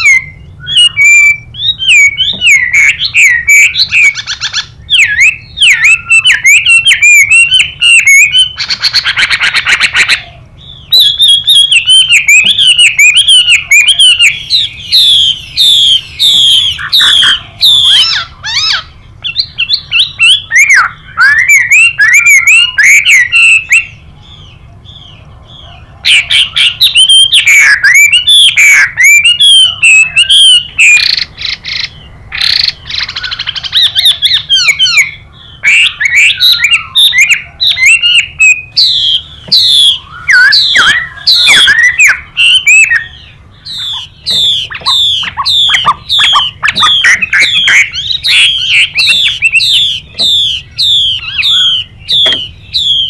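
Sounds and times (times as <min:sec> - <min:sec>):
bird singing whistled phrases: 0:00.0 - 0:53.0
harsh buzzy bird rasps: 0:00.0 - 0:53.0.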